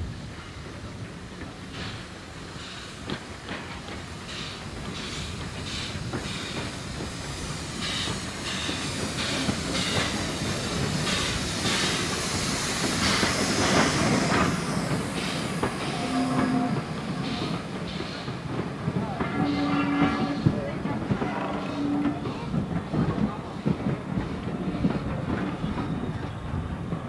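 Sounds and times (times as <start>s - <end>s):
train wheels clacking on rails: 0.3s - 27.0s.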